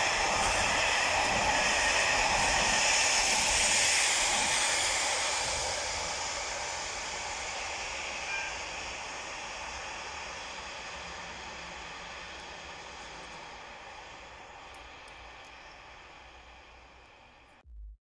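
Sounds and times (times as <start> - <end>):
train wheels rushing on rail: 0.0 - 17.6.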